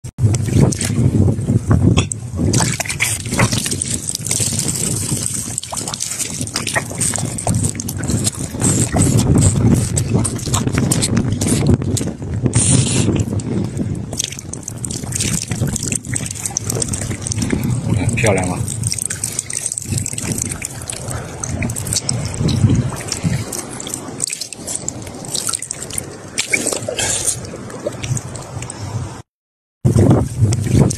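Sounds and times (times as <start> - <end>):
wind rumbling on microphone: 0.1 - 29.2, 29.8 - 30.9
water trickling and splashing: 0.2 - 29.2, 29.9 - 30.9.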